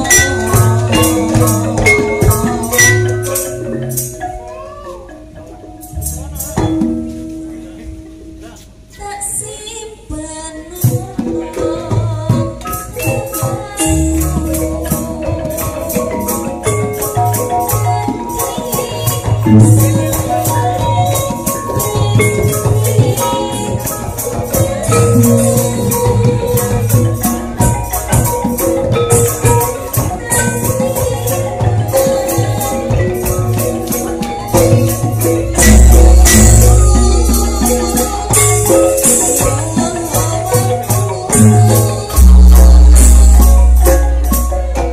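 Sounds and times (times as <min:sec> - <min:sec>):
gamelan ensemble playing: 0:00.0 - 0:44.9.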